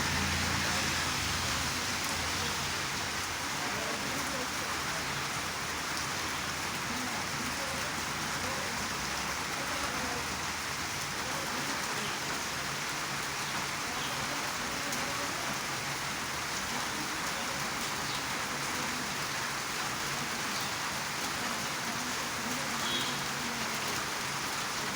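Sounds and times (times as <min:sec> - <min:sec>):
rain falling on a road: 0:00.0 - 0:24.9.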